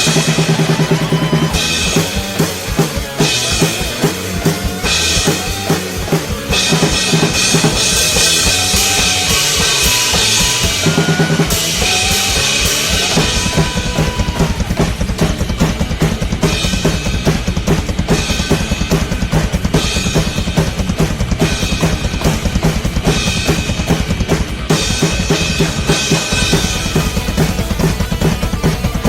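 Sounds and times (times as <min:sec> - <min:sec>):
cymbals washing: 0:00.0 - 0:29.0
drum kit playing: 0:00.0 - 0:29.0
metal instrumental backing track: 0:00.0 - 0:29.0.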